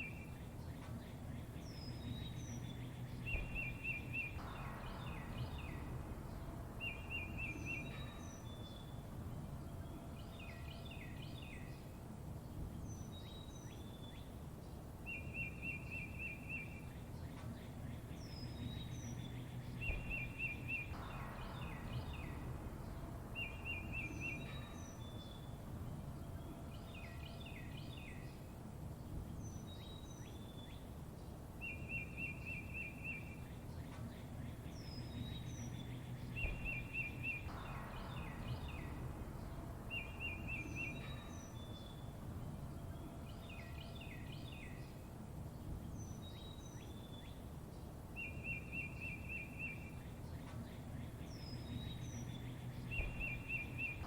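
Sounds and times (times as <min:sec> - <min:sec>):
low background rumble: 0:00.0 - 0:54.0
songbirds chirping: 0:00.0 - 0:54.0.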